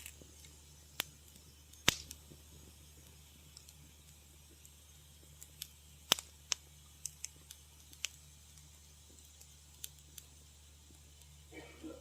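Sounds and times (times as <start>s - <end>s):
wood fire crackling: 0.0s - 12.0s
faint low hum: 0.1s - 12.0s.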